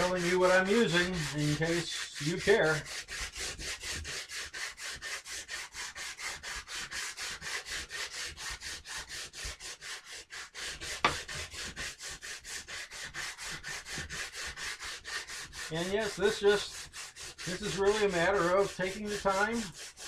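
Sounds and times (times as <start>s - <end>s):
sandpaper rubbing on wood: 0.0s - 20.0s.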